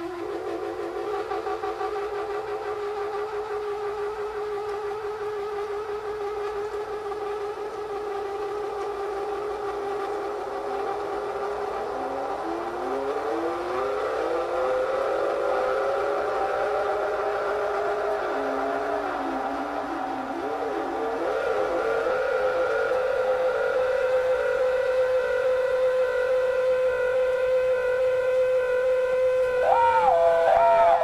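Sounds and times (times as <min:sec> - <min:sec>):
siren-like gliding tones: 0:00.0 - 0:31.0
sustained droning tone: 0:00.0 - 0:31.0.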